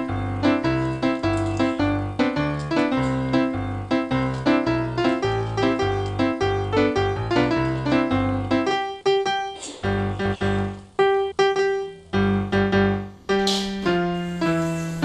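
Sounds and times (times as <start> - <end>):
bouncy piano tune: 0.0 - 15.0.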